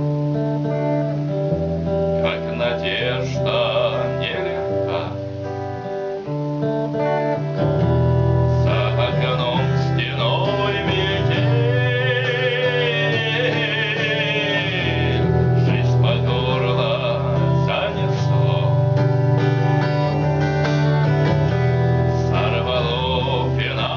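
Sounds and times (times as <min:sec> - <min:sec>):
person singing: 0:00.0 - 0:05.9, 0:07.0 - 0:23.9
acoustic guitar: 0:00.0 - 0:23.9.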